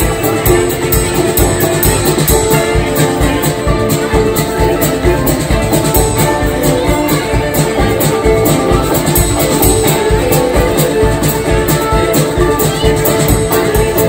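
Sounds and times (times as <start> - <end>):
string band playing honky-tonk: 0.0 - 14.0.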